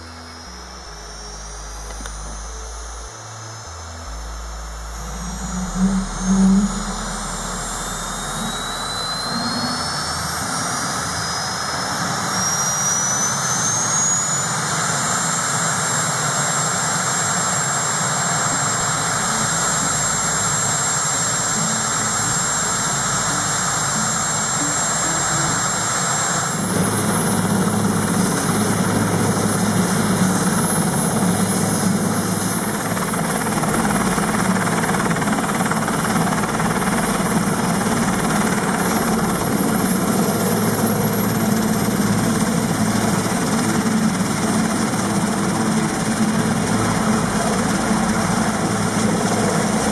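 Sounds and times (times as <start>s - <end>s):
helicopter rotor hum: 0.0s - 49.9s
helicopter turbine whine: 0.0s - 49.9s.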